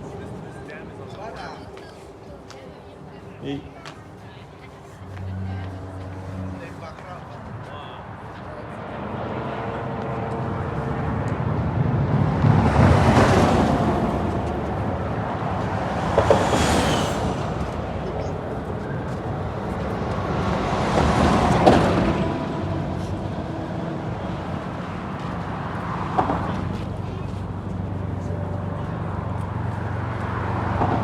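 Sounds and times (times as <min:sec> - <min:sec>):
background traffic rumble: 0:00.0 - 0:31.0
vehicles passing: 0:00.0 - 0:31.0.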